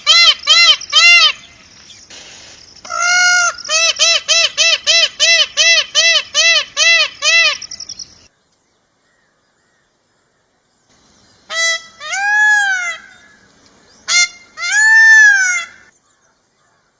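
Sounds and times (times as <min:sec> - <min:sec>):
peacock calling: 0:00.0 - 0:08.3, 0:11.4 - 0:16.9.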